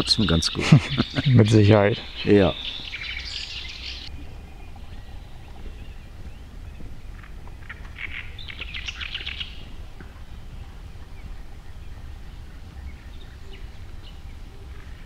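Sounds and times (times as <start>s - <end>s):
bird calling: 0.0s - 15.0s
steady low rumble: 0.0s - 15.0s.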